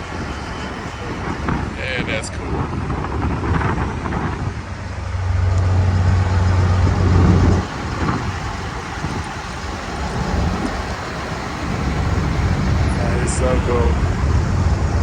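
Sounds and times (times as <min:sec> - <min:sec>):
truck engine humming: 0:00.0 - 0:15.0
wind noise on microphone: 0:00.0 - 0:15.0.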